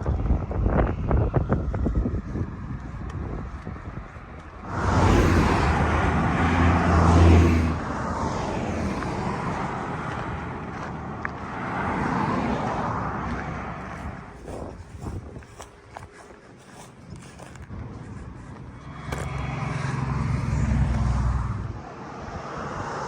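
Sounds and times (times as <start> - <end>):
vehicles passing by: 0.0 - 23.0.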